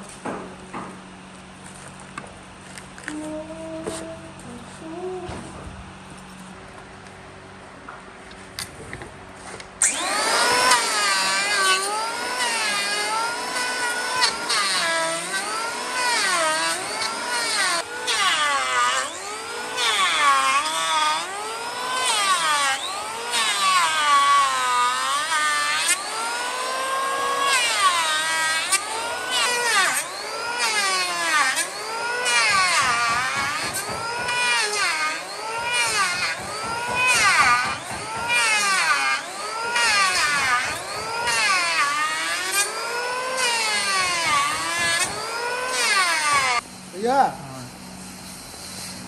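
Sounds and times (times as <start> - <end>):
power tool motor cutting wood: 9.5 - 49.0.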